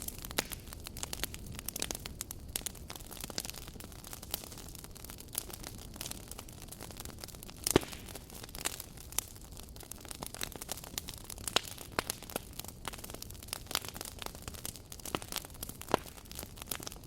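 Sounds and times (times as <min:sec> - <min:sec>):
campfire crackling: 0:00.0 - 0:17.0
low fire hiss: 0:00.0 - 0:17.0
sharp fire pops: 0:00.0 - 0:17.0.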